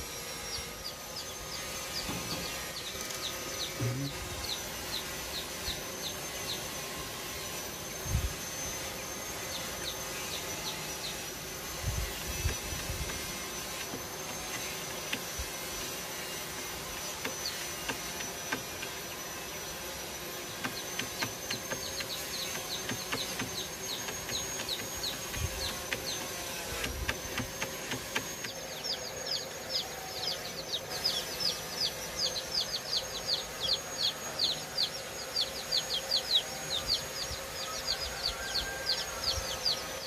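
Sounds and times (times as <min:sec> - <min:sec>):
insect high drone: 0:00.0 - 0:40.0.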